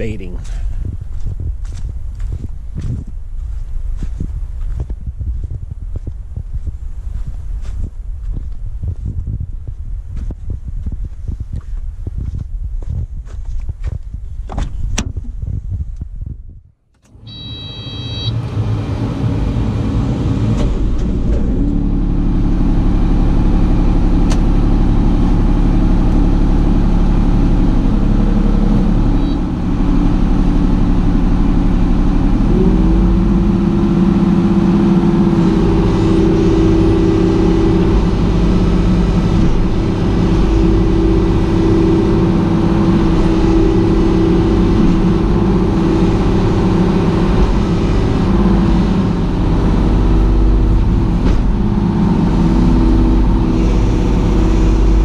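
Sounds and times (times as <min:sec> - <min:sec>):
excavator diesel engine running: 0:00.0 - 0:14.9, 0:17.0 - 0:55.0.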